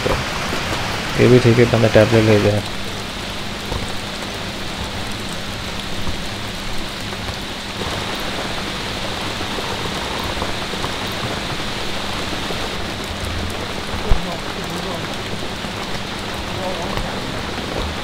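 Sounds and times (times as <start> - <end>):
rain falling on a tent: 0.0 - 18.0.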